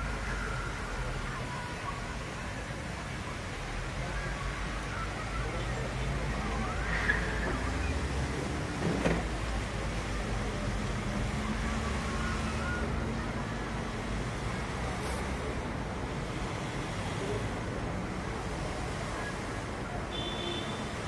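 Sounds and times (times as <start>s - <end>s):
road traffic rushing: 0.0s - 21.0s.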